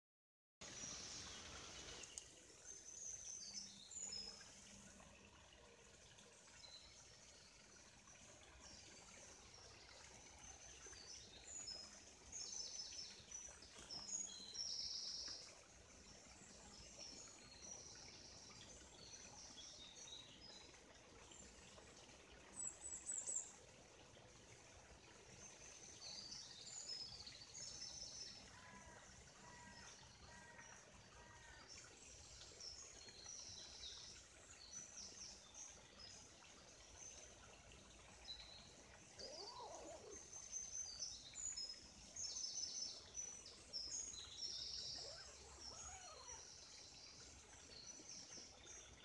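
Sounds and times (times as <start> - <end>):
songbirds chirping: 0.6 - 49.0
stream trickling: 0.6 - 49.0.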